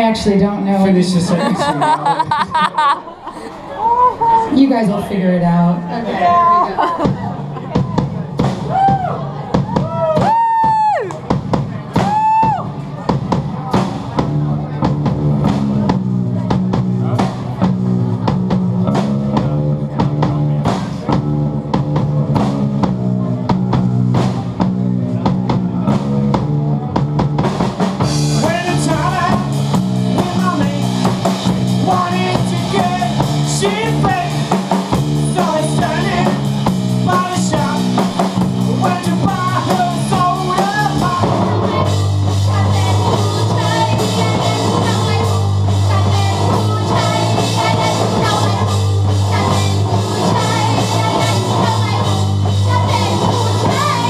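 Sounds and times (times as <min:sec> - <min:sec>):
drum kit: 0:06.8 - 0:54.0.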